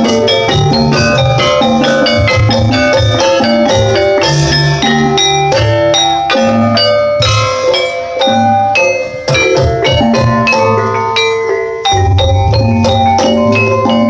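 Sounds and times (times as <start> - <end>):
metal mallet instruments ringing: 0.0 - 14.0
steady drum pattern: 0.0 - 14.0.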